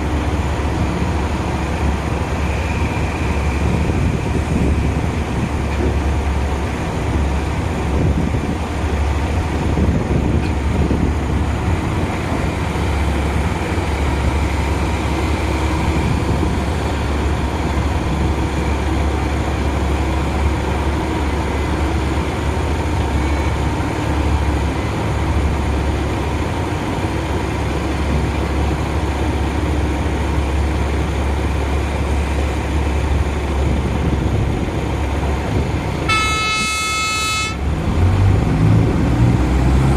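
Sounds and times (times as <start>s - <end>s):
excavator diesel engines droning: 0.0s - 39.9s.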